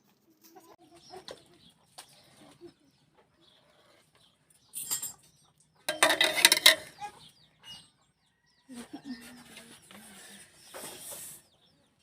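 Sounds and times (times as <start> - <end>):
chickens: 0.0 - 4.7, 5.3 - 12.0.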